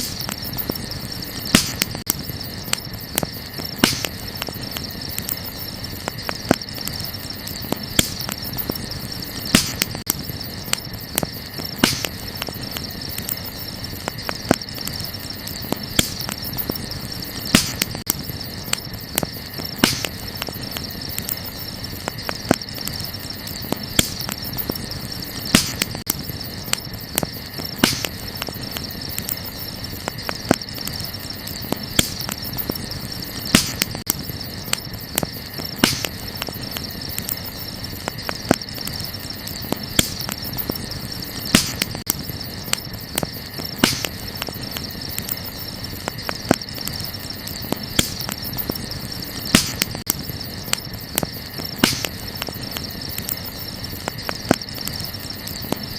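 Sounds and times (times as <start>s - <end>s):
campfire crackling and popping: 0.0s - 55.9s
crickets chirring: 0.0s - 55.9s.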